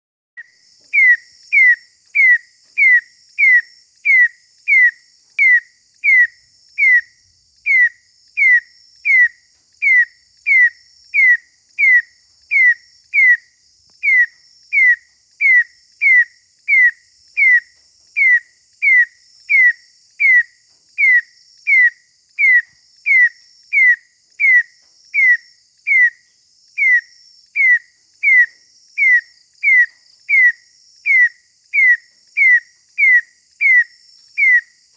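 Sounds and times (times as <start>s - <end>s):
loud whistle-like insect call: 0.4s - 34.9s.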